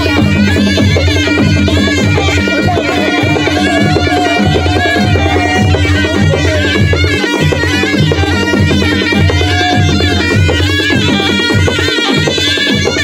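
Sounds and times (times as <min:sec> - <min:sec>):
clarinets playing melody: 0:00.0 - 0:13.0
drum beats: 0:00.0 - 0:13.0.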